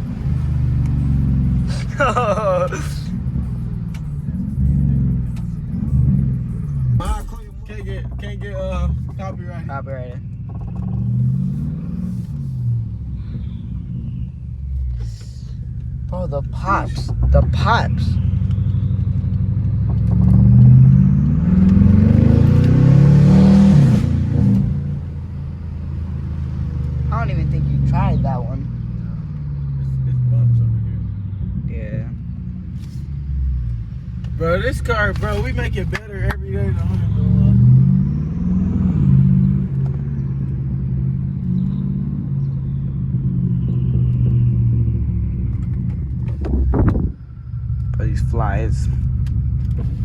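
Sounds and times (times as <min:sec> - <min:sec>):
car engine accelerating hard: 0:00.0 - 0:50.0.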